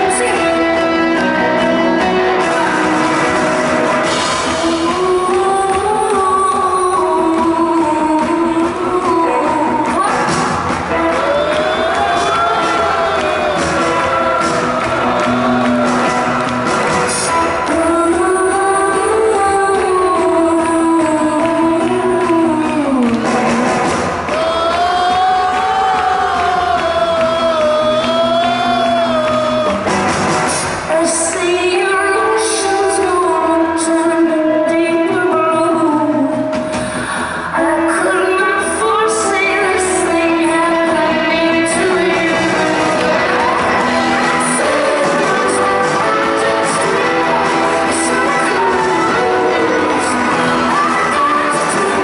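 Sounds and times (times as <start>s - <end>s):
woman singing: 0.0s - 15.9s, 17.0s - 29.8s, 30.5s - 52.0s
live rock band playing: 0.0s - 52.0s.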